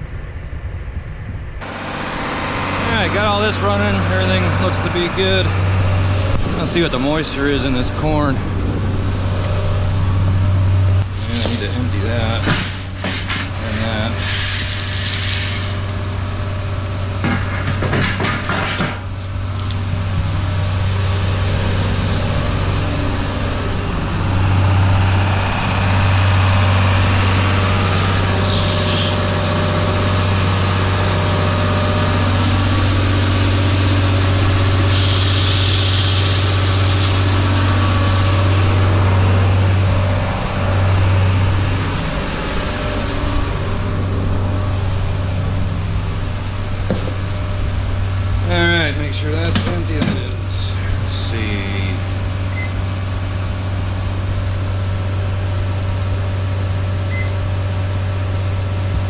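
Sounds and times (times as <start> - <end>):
tractor engine idling: 1.6 - 14.9, 15.7 - 59.0.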